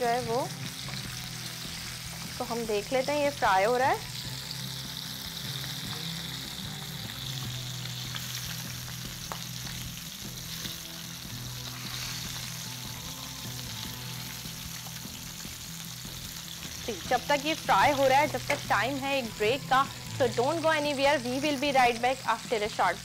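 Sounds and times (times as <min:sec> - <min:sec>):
chicken frying in oil: 0:00.0 - 0:23.0.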